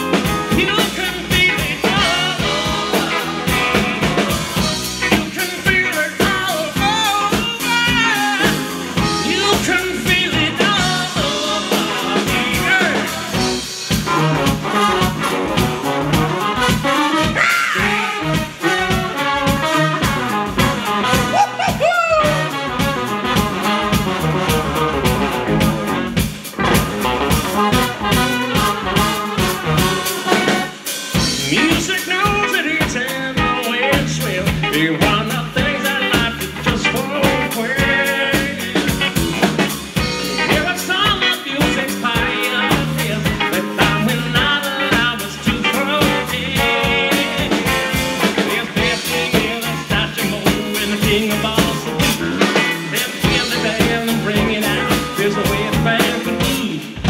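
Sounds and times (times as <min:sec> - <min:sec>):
live band with horn section: 0:00.0 - 0:57.0
steady drum beat: 0:00.0 - 0:57.0.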